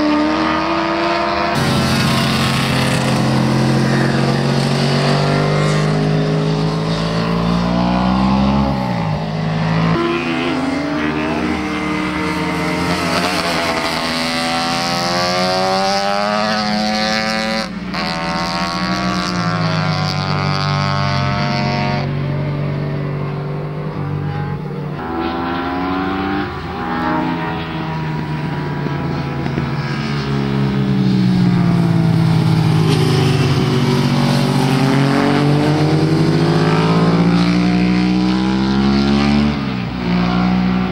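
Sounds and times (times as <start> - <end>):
motorcycle engines accelerating: 0.0 - 40.9.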